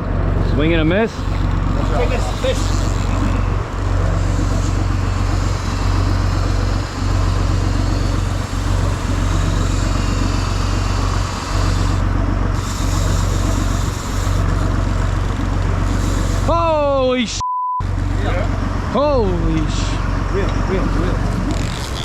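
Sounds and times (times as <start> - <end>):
boat engine droning: 0.0 - 22.0
constant rush of noise: 0.0 - 22.0.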